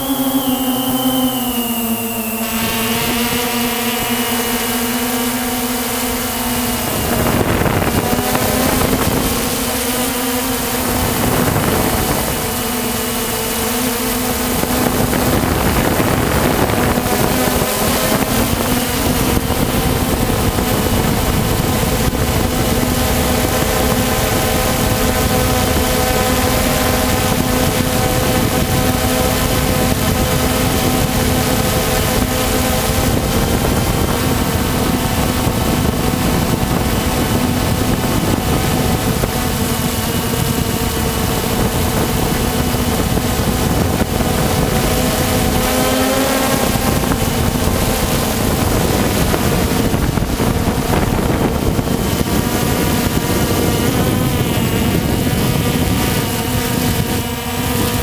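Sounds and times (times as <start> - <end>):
drone motors and propellers humming: 0.0 - 58.0
wind on microphone: 0.0 - 58.0.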